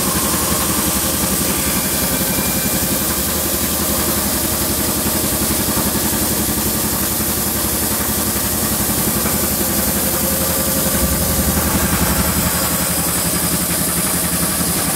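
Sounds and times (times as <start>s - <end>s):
laminating machine drone: 0.0s - 14.9s.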